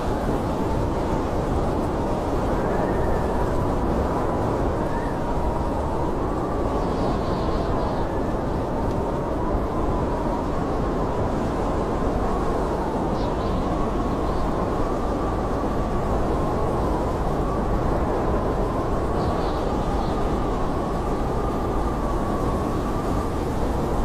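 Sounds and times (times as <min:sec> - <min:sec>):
blizzard wind rumbling: 0:00.0 - 0:24.0
whistling wind howl: 0:00.0 - 0:24.0.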